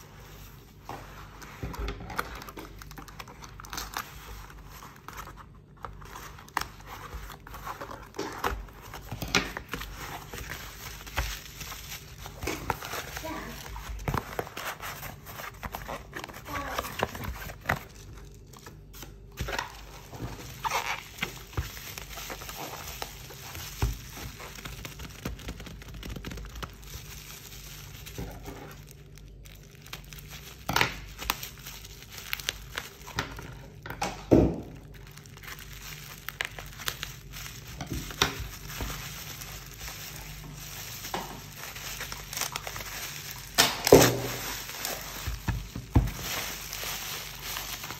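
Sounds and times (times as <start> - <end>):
plastic packaging crinkling: 0.0 - 47.9.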